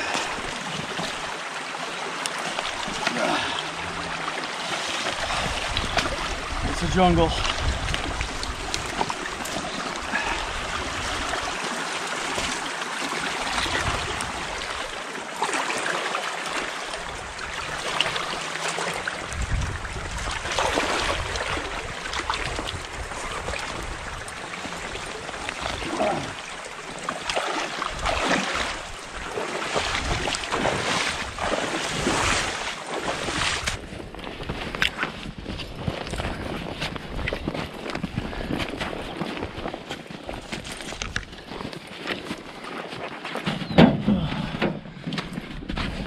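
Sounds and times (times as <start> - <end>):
footsteps wading through shallow water: 0.0 - 46.0.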